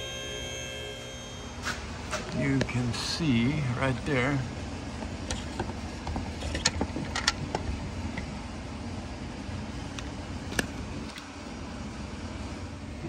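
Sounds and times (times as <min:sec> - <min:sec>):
steady low rumble: 0:01.4 - 0:13.0.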